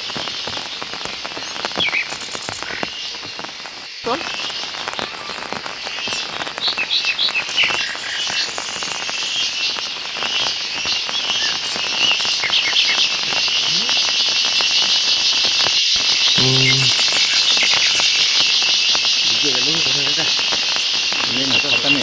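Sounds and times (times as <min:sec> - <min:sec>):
insects chorus: 0:00.0 - 0:22.0
bird chirps: 0:04.0 - 0:22.0.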